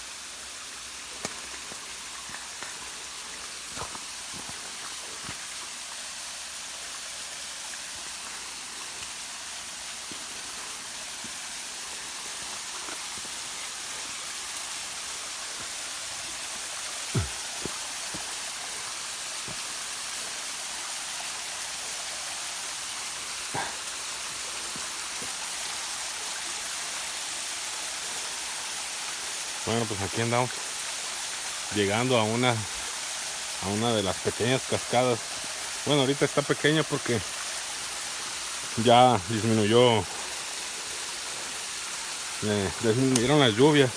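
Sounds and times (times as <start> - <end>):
waterfall rushing: 8.3 - 43.9.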